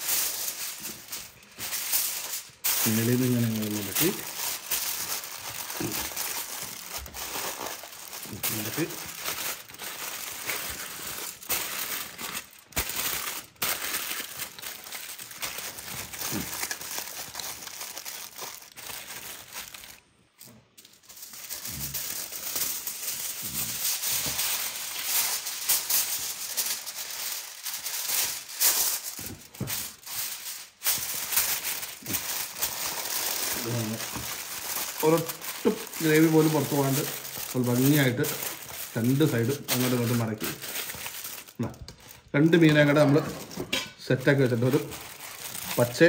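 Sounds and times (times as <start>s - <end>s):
aluminium foil crinkling: 0.0s - 46.0s.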